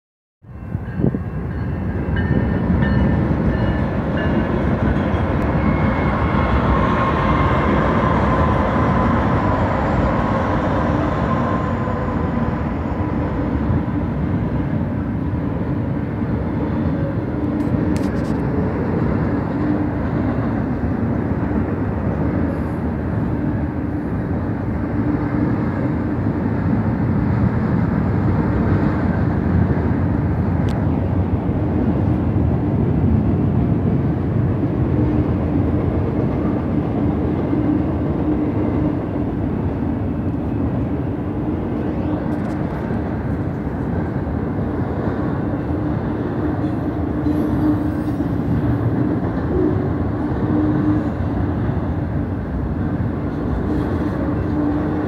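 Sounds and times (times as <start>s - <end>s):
freight train wheels rumbling: 0.4s - 55.0s.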